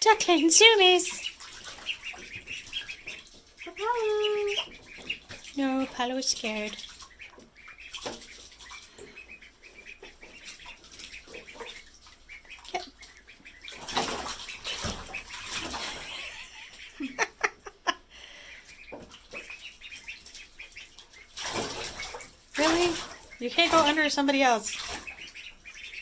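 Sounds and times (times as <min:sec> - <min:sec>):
ducklings splashing in water: 0:00.0 - 0:26.0
duckling peeps: 0:00.2 - 0:26.0.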